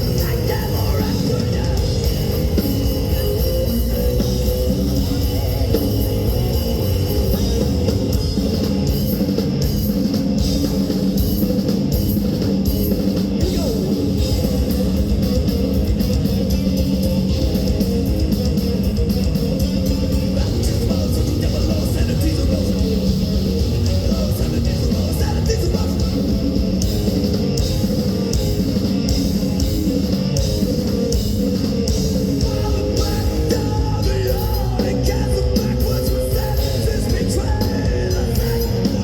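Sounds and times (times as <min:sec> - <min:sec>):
death metal band playing live: 0:00.0 - 0:39.0.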